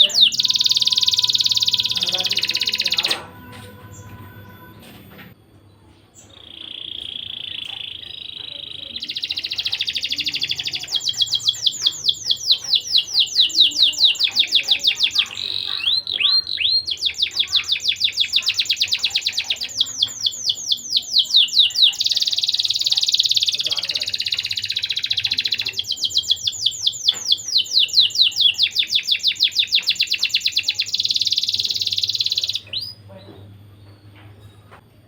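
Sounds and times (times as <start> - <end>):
canary singing: 0.0 - 5.4, 6.0 - 34.8.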